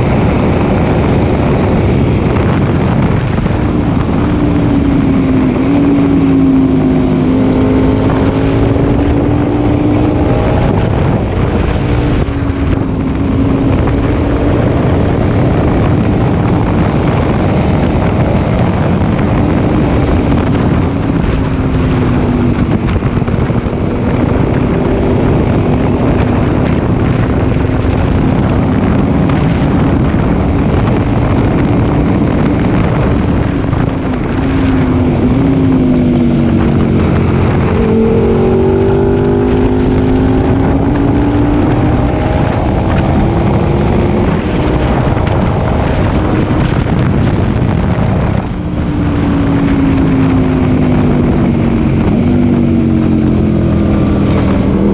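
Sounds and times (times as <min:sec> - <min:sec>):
motorcycle engine running: 0:00.0 - 0:54.9
wind rush on microphone: 0:00.0 - 0:54.9.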